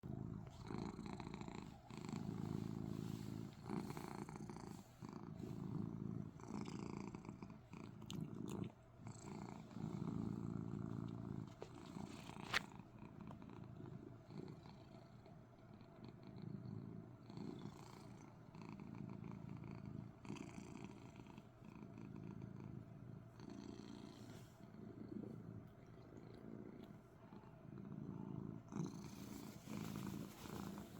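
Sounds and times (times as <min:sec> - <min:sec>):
cat purring: 0:00.0 - 0:30.9.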